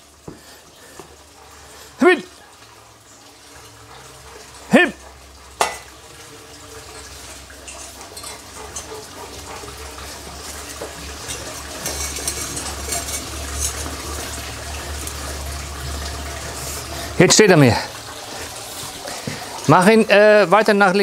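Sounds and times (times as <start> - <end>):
water pouring and splashing: 0.0 - 21.0.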